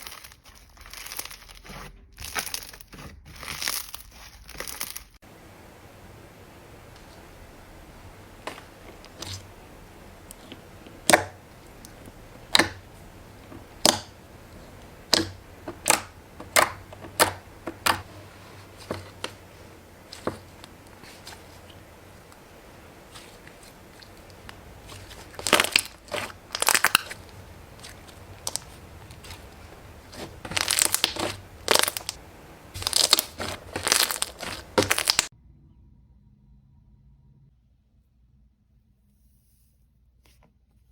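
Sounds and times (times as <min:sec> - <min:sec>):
brittle crunching: 0:00.0 - 0:35.3.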